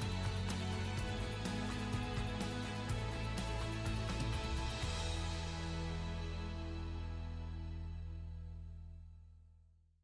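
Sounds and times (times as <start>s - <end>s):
background music with held notes: 0.0s - 9.0s.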